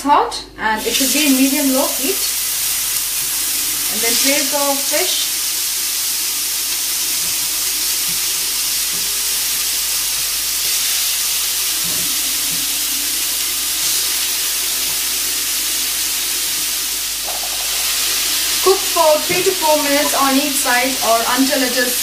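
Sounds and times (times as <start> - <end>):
fish sizzling on grill pan: 0.8 - 22.0.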